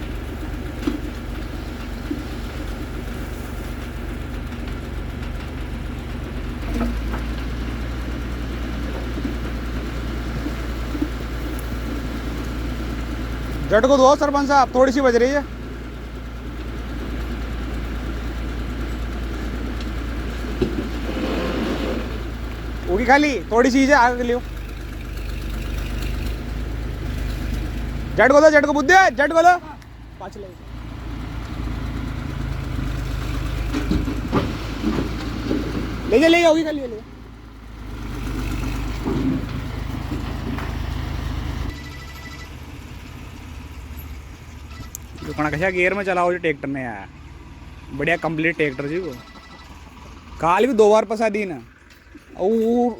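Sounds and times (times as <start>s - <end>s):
diesel machinery engine running: 0.0s - 52.9s.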